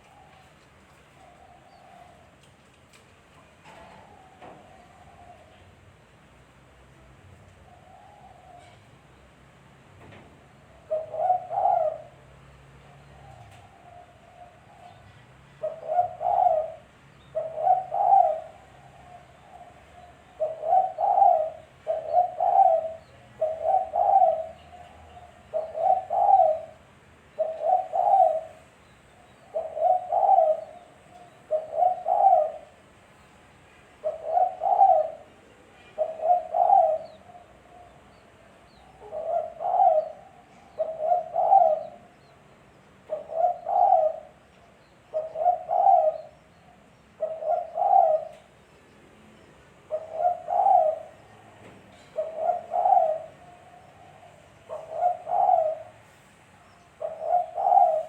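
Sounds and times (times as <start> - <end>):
dove cooing: 0.0 - 2.5, 3.7 - 5.8, 7.7 - 8.9, 10.6 - 28.7, 29.4 - 33.0, 34.0 - 42.4, 43.0 - 48.6, 49.8 - 56.3, 56.9 - 58.0.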